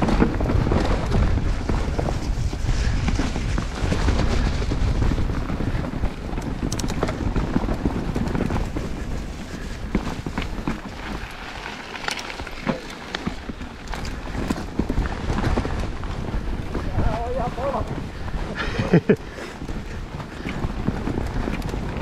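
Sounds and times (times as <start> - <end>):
bike rattling and clicking: 0.0 - 22.0
tyres running over dirt: 0.0 - 22.0
wind rumbling on microphone: 0.0 - 22.0.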